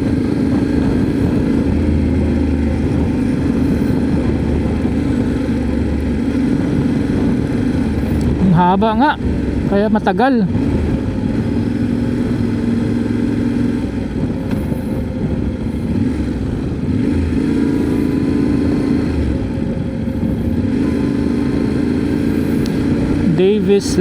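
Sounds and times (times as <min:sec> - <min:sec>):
motorcycle engine cruising: 0:00.0 - 0:24.0
road and wind noise: 0:00.0 - 0:24.0.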